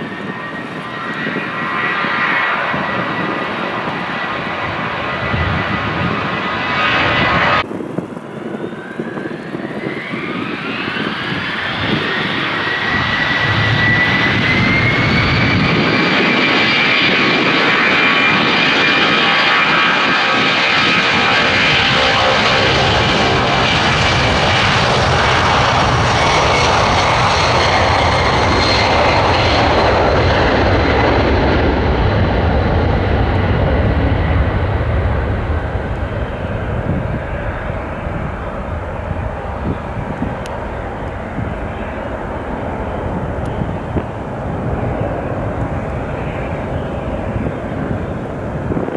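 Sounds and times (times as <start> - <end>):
jet engine roar: 0.0 - 48.9
jet engines spooling up: 0.0 - 48.9.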